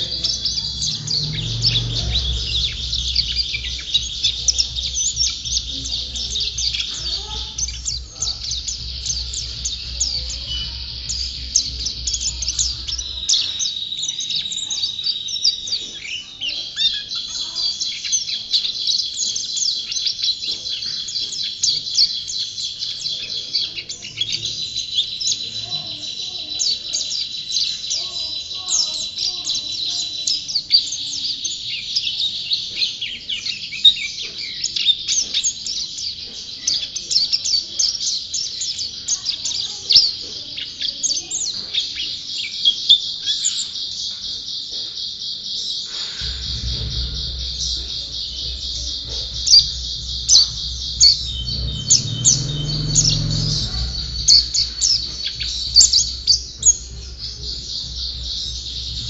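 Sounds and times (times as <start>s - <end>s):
songbird twittering and trilling: 0.0s - 59.0s.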